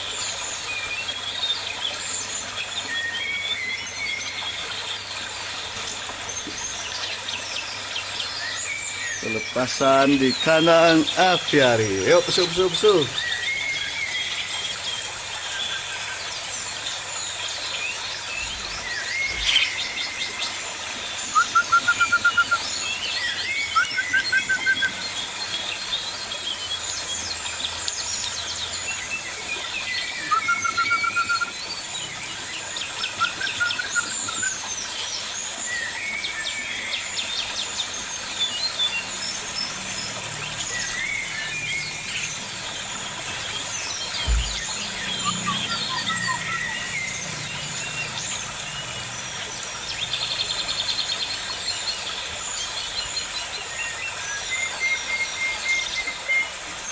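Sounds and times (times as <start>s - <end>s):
birds chirping and trilling: 0.0s - 56.9s.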